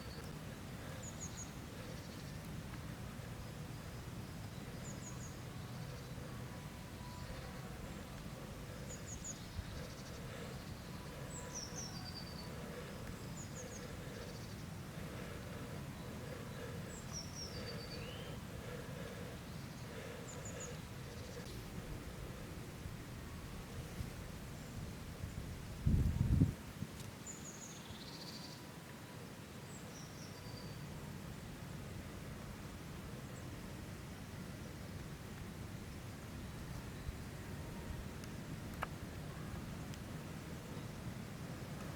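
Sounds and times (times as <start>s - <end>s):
faint outdoor hiss: 0.0s - 41.9s
songbirds chirping: 0.0s - 41.9s.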